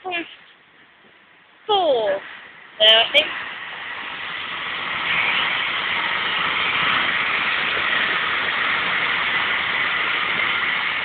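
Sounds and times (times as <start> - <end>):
train rushing: 1.7 - 11.0.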